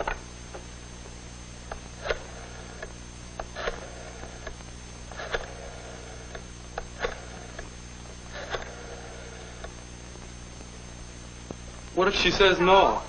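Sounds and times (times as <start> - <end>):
steady mains hum: 0.0 - 13.0.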